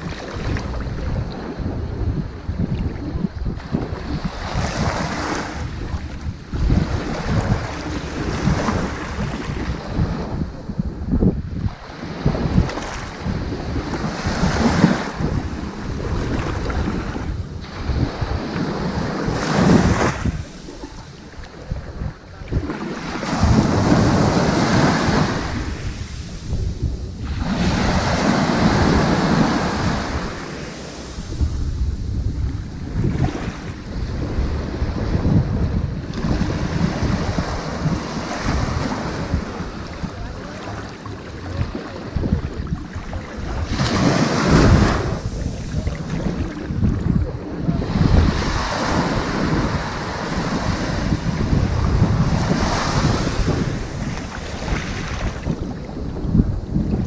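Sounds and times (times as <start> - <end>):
ocean waves breaking on beach: 0.0 - 57.0
wind rumble on microphone: 0.0 - 57.0.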